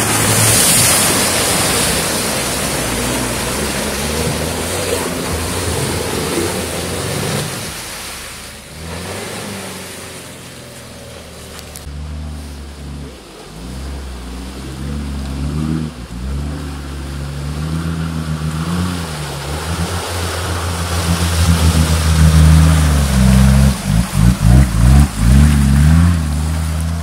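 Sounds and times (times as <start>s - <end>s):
off-road vehicle engine revving: 0.0s - 27.0s
tyres churning and splashing mud: 0.0s - 27.0s.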